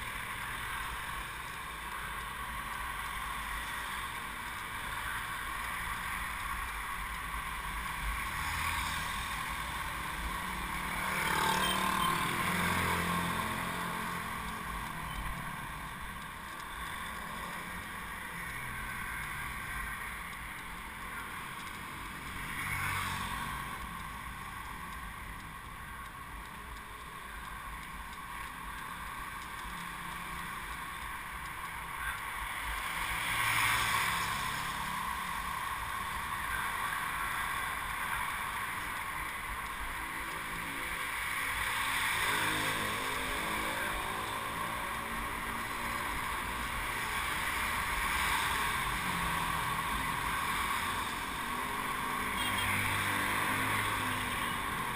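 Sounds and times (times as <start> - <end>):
passing motorcycles and cars: 0.0 - 54.9.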